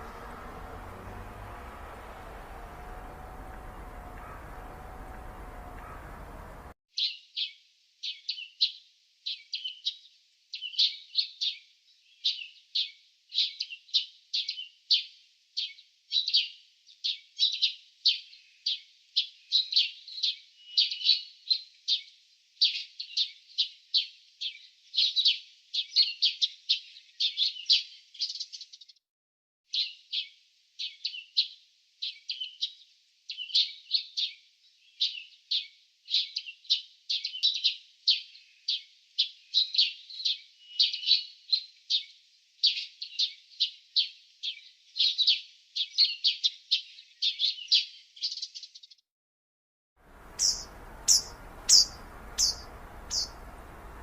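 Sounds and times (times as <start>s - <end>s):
small birds chirping: 0.0s - 29.0s, 29.7s - 49.0s, 50.1s - 54.0s.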